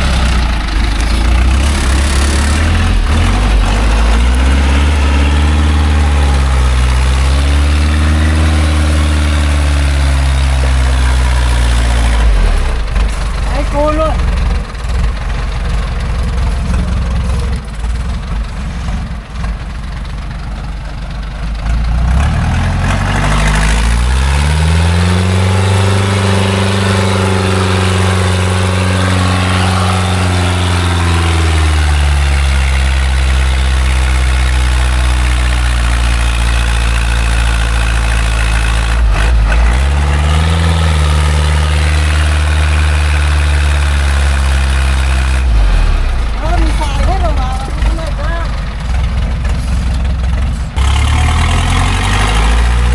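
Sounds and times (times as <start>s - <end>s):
truck engine idling and revving: 0.0s - 52.9s.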